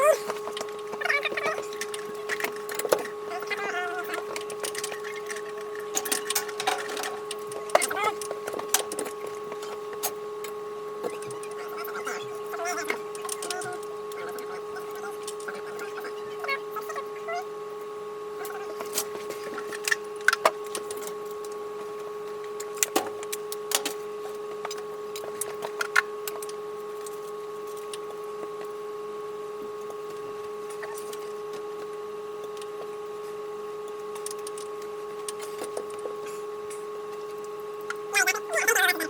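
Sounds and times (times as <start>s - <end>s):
steady multi-tone hum: 0.0s - 39.0s.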